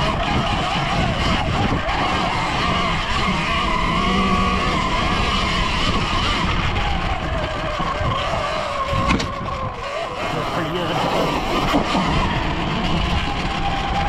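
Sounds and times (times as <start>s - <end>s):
electric motor whine: 0.0s - 14.0s
tyre and drivetrain noise: 0.0s - 14.0s.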